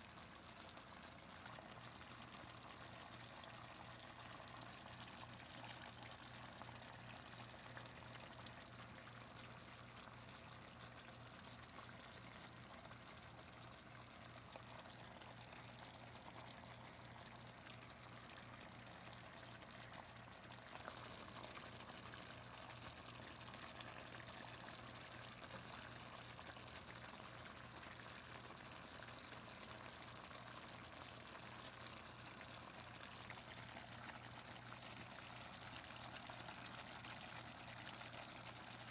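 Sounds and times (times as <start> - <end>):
chicken sizzling in gravy: 0.1 - 38.9.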